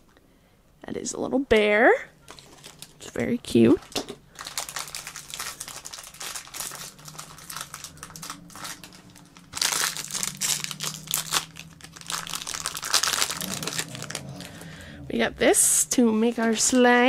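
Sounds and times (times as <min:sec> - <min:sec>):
plastic packaging crinkling: 0:02.2 - 0:14.8, 0:16.0 - 0:17.0.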